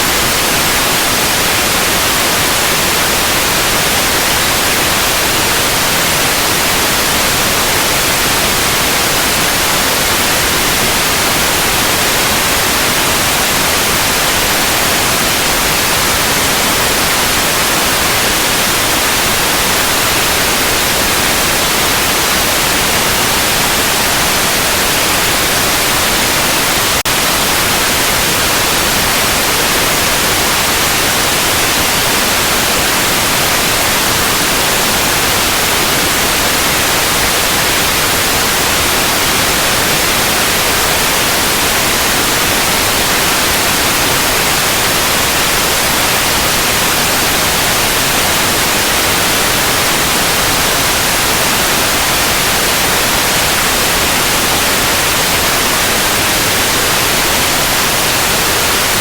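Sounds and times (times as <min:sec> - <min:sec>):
synthetic white noise hiss: 0:00.0 - 0:59.0.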